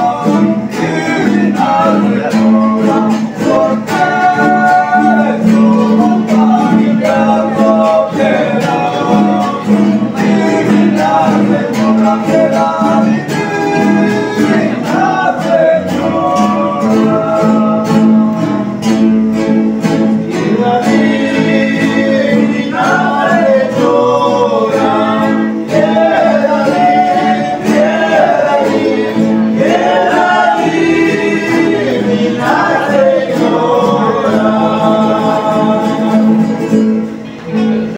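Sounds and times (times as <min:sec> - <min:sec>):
men singing: 0:00.0 - 0:37.2
strummed acoustic guitars: 0:00.0 - 0:37.9.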